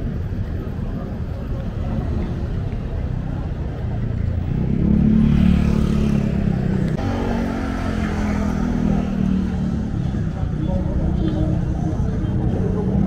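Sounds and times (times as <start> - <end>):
traffic rumble: 0.0 - 13.0
vehicle engine running close by: 0.0 - 13.0.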